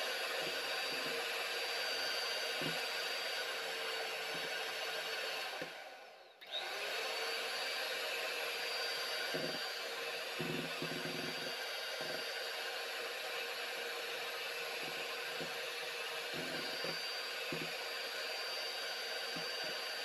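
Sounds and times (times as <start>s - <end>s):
hand mixer whirring: 0.0s - 20.0s.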